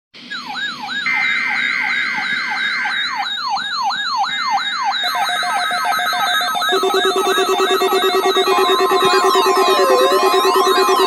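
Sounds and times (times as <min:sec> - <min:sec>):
electronic siren falling sweeps: 0:00.2 - 0:11.0
steady electronic tones: 0:00.2 - 0:11.0
pulsing beeps: 0:00.3 - 0:11.0.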